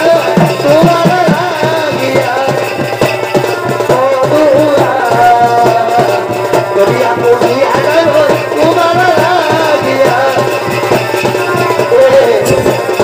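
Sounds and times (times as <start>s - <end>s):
drums beating fast rhythm: 0.0s - 13.0s.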